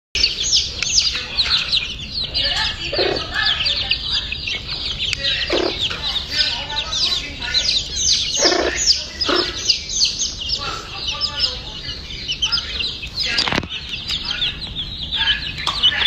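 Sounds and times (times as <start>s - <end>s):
chicks peeping: 0.2s - 16.0s
hen clucking: 0.2s - 16.0s.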